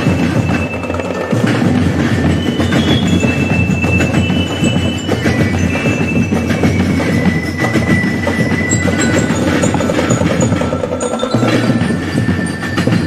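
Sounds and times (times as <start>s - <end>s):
bell-like metallic notes: 0.0s - 13.0s
fast drumming: 0.0s - 13.0s.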